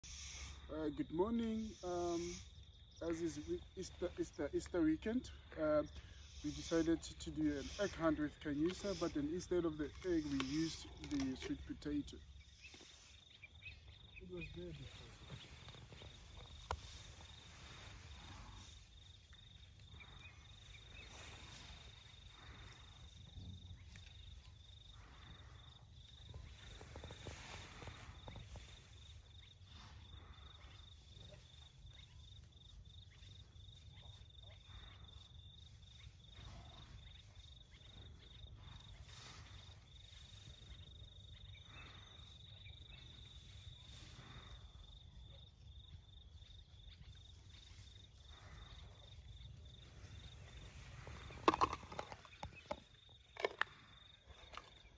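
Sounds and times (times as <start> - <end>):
insect trilling: 0.0 - 54.9
rustling of dry grass: 0.0 - 54.9.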